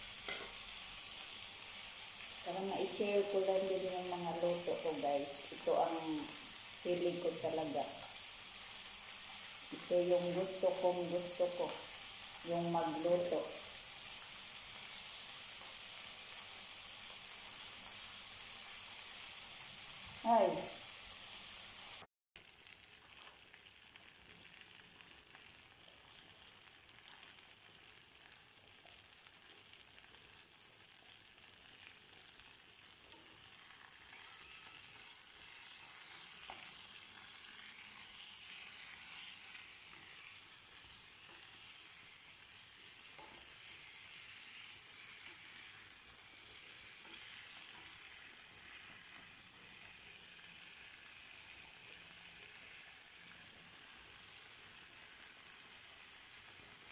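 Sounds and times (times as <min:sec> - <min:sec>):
chicken sizzling in oil: 0:00.0 - 0:56.9.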